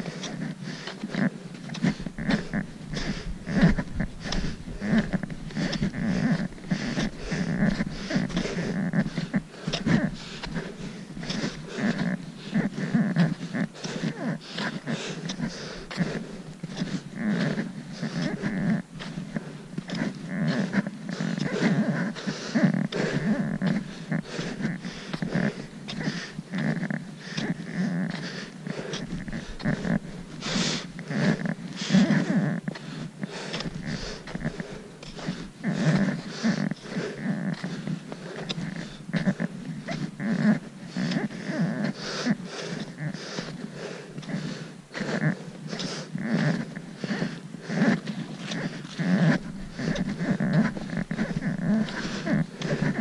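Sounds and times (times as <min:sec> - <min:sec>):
person breathing: 0:00.0 - 0:53.0
trekking poles planting: 0:00.0 - 0:53.0.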